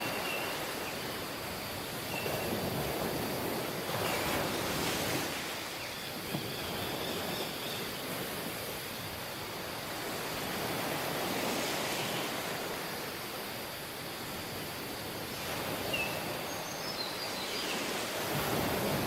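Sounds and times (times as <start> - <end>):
surf washing onto beach: 0.0 - 19.0.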